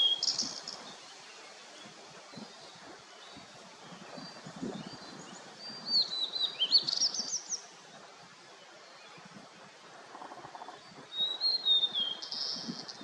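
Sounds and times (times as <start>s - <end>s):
small birds chirping: 0.0s - 8.1s, 10.0s - 13.0s
low steady background noise: 0.0s - 13.0s.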